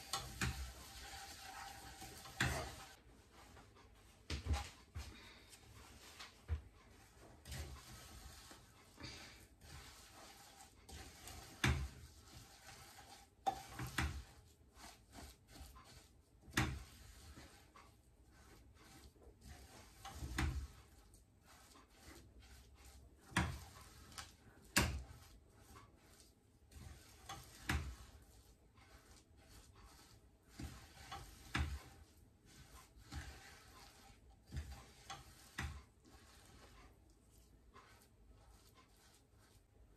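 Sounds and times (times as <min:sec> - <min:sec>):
wooden spoon stirring in pot: 0:00.0 - 0:39.9.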